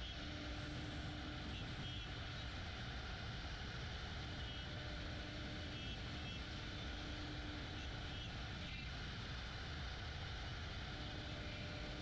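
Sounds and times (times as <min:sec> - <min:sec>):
faint steady whine: 0:00.0 - 0:12.0
router rumble and hiss: 0:00.0 - 0:12.0.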